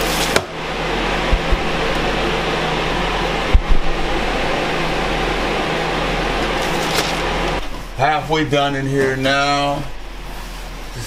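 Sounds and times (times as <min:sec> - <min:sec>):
air scrubber fan whirring: 0:00.0 - 0:11.0
low hum: 0:00.5 - 0:11.0.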